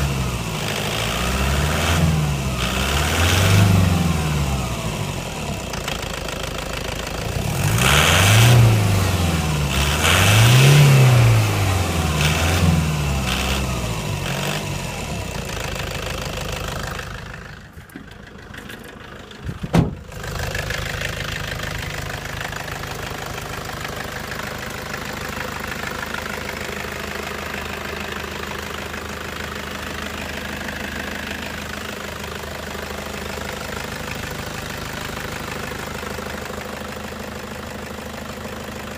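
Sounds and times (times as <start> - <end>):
diesel engine revving: 0.0 - 38.9
diesel engine idling with knock: 2.6 - 38.9.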